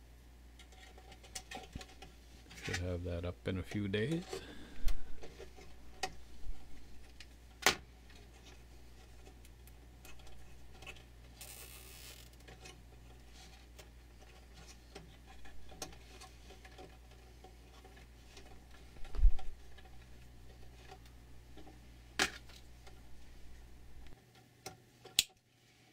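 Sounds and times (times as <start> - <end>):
steady low hum: 0.0 - 24.2.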